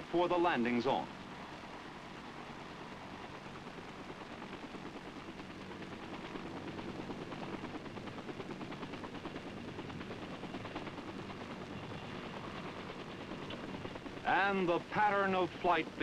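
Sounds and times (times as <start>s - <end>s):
helicopter rotor chop: 0.0s - 16.0s.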